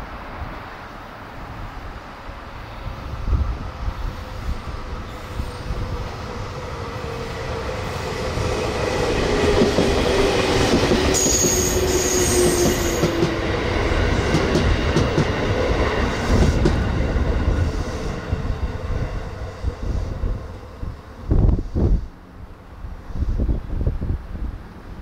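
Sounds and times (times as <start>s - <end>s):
electric train running noise: 2.6s - 22.8s.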